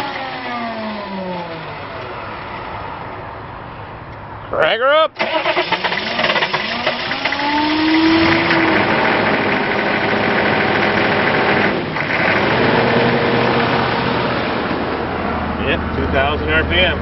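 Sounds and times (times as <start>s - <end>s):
diesel truck engine revving: 0.0s - 3.2s, 5.2s - 17.0s.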